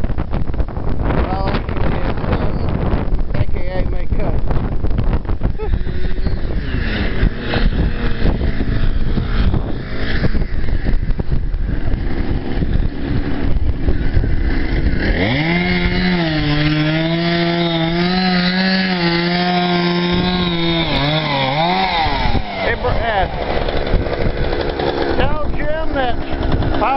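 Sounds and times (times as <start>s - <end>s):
wind buffeting microphone: 0.0s - 26.9s
chainsaw revving: 5.2s - 26.9s.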